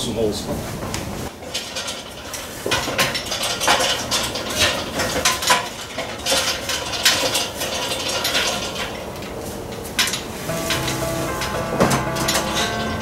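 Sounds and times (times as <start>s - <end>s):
ladder and tools clattering: 0.5s - 13.0s.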